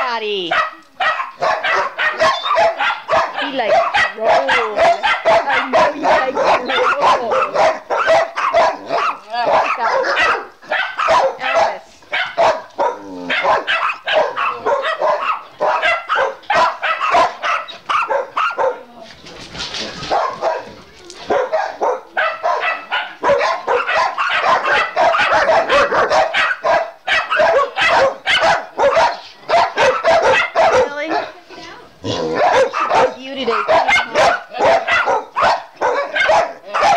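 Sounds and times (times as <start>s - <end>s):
dogs barking: 0.2s - 19.0s, 19.7s - 36.9s.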